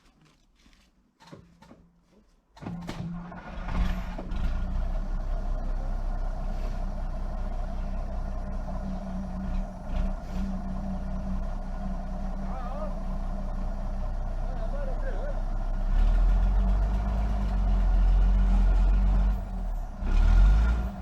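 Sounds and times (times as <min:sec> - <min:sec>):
diesel truck engine starting: 0:02.6 - 0:21.0.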